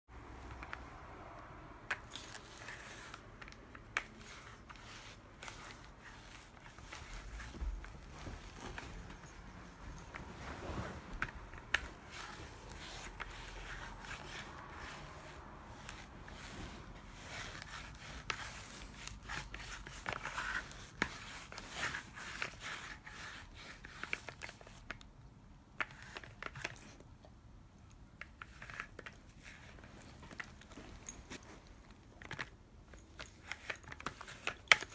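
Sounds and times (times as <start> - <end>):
lint roller crackling on fur: 1.9 - 25.0, 28.2 - 34.9.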